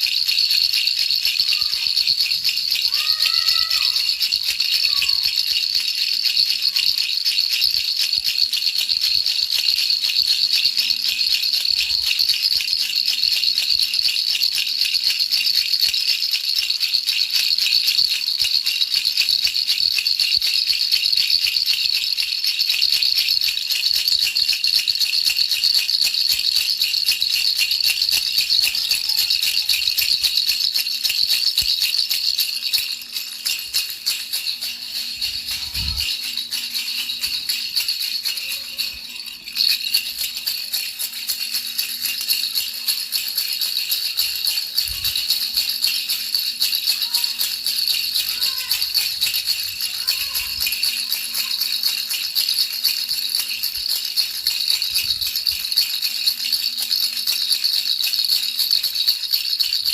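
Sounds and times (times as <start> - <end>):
baby rattle shaking: 0.0 - 59.9.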